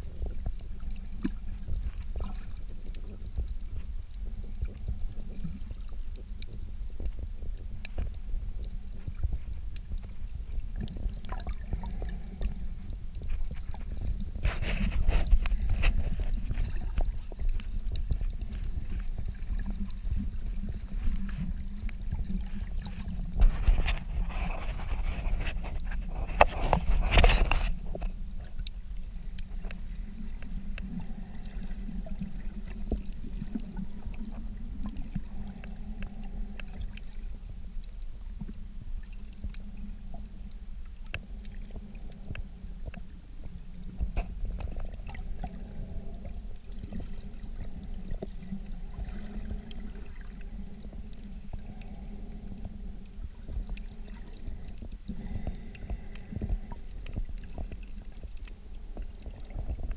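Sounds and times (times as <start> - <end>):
muffled low underwater rumble: 0.0 - 59.9
sharp clicks and crackles: 0.1 - 59.9.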